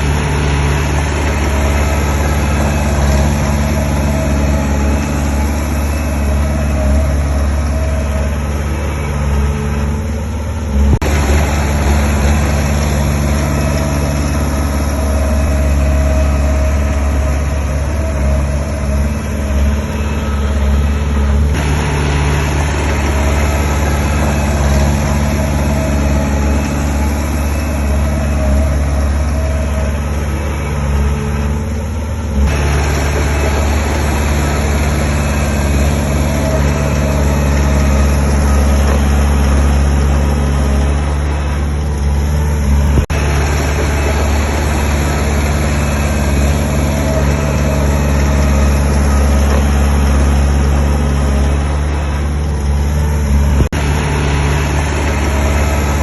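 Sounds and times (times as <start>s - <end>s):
heavy diesel engine running: 0.0s - 56.0s
rattling mechanical noise: 0.0s - 56.0s.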